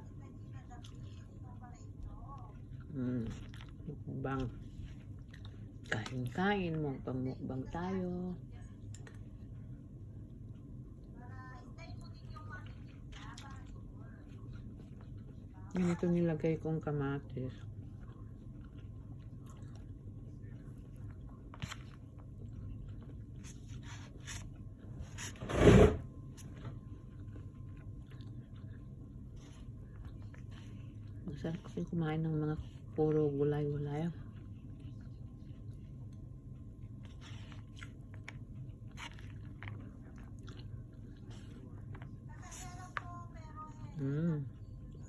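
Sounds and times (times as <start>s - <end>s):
steady low hum: 0.0s - 45.0s
person chewing noodles: 0.8s - 7.1s, 12.6s - 42.9s.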